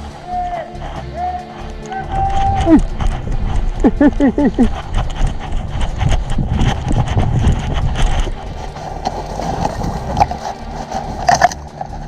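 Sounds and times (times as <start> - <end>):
footsteps in dry undergrowth: 0.0 - 12.0
twigs and leaves crackling: 0.0 - 12.0.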